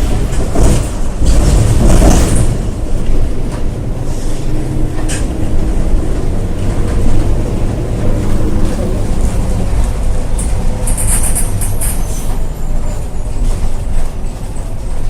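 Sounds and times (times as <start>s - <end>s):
bus wheels droning: 0.0s - 15.0s.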